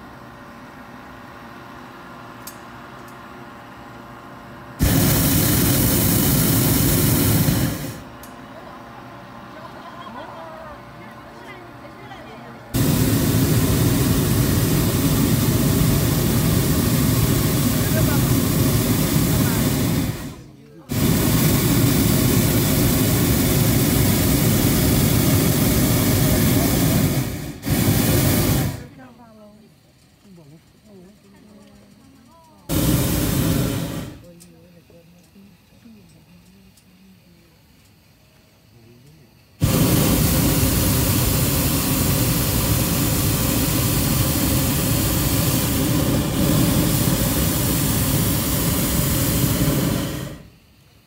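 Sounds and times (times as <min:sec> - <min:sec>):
propane burner rushing: 0:00.0 - 0:51.0.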